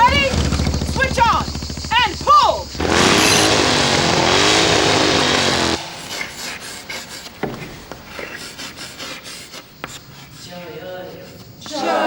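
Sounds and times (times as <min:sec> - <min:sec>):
power tool droning: 0:00.0 - 0:10.4
scraping and knocking: 0:00.0 - 0:10.5.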